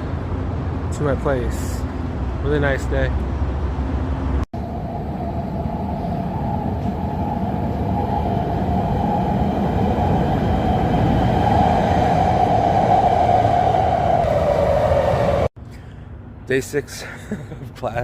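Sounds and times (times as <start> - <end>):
train rumbling on rails: 0.0 - 15.5.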